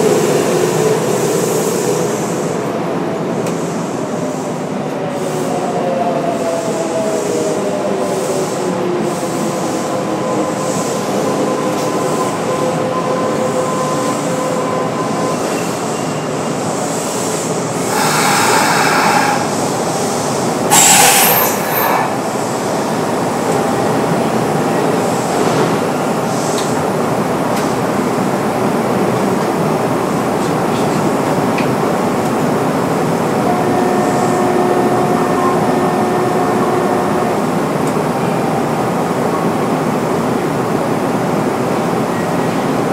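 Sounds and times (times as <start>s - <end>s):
train wheels rumbling: 6.2s - 41.1s.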